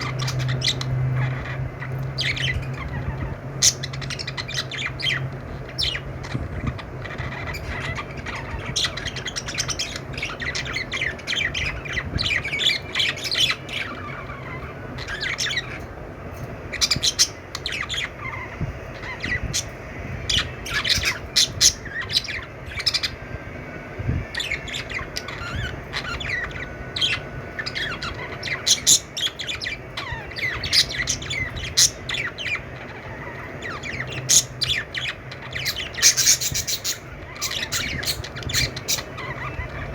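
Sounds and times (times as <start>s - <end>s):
budgerigars chirping and squawking: 0.0s - 39.9s
low steady hum: 0.0s - 39.9s.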